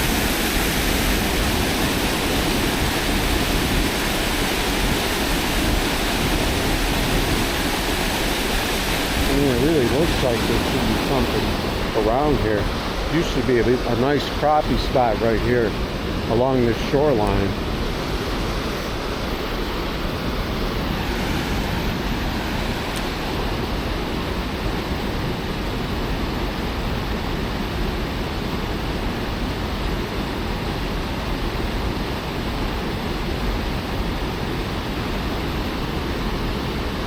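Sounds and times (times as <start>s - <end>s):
floodwater rushing over dam: 0.0s - 37.0s.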